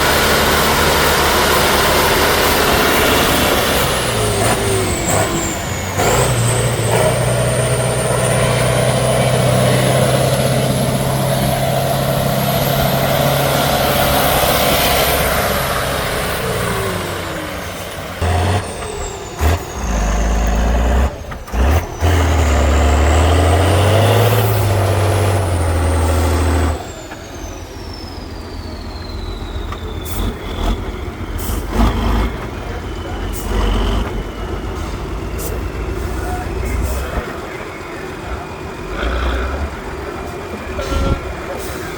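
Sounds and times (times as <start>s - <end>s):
diesel truck engine revving: 0.0s - 41.9s.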